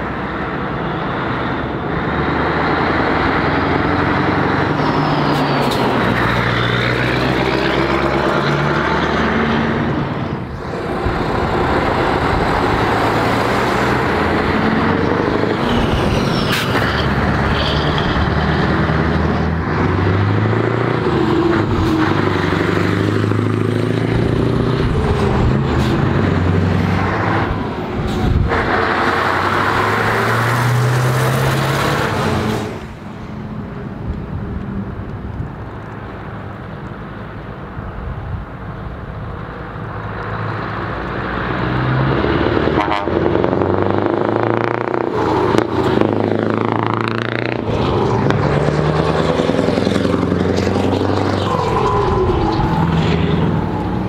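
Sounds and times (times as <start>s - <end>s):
diesel trucks driving past: 0.0s - 54.0s.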